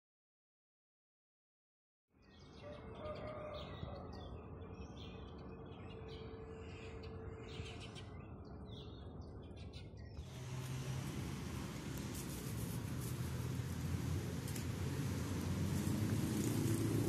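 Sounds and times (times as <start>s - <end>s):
small birds chirping: 2.2s - 17.0s.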